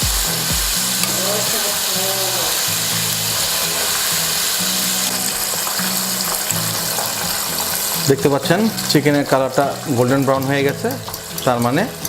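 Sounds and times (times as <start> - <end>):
background music with bass line: 0.0 - 12.0
chicken sizzling in hot oil: 0.0 - 12.0.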